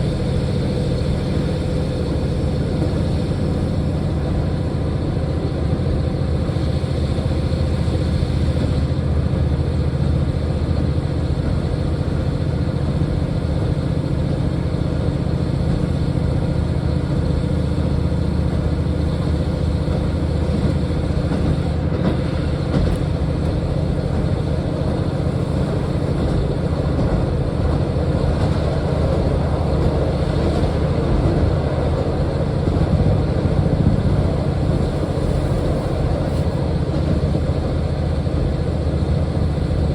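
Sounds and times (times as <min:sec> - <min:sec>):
diesel train engine drone: 0:00.0 - 0:39.9
train rolling noise: 0:00.0 - 0:39.9.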